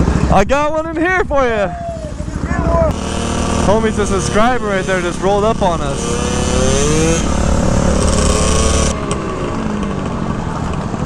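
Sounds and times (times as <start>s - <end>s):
scooter engine accelerating: 1.8s - 11.0s.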